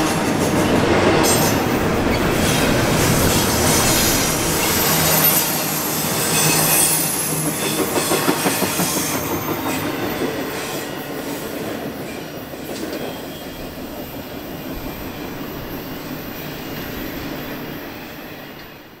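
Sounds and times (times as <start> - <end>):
freight train wheels rumbling on track: 0.0 - 19.0.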